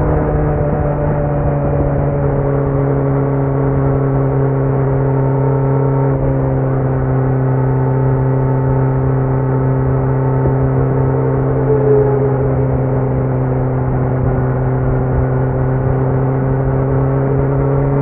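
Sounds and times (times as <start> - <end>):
motorcycle engine droning: 0.0 - 18.0.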